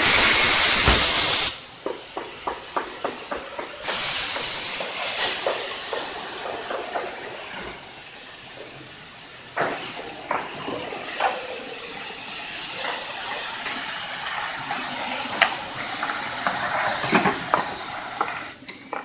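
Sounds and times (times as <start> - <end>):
machine hissing: 0.0 - 18.7.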